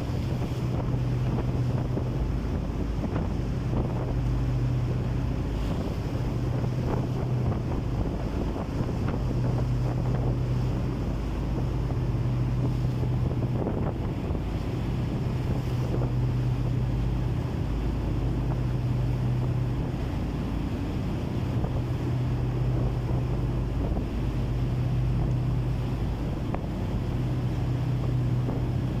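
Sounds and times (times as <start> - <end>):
boat engine humming: 0.0 - 29.0
wind buffeting microphone: 0.0 - 29.0.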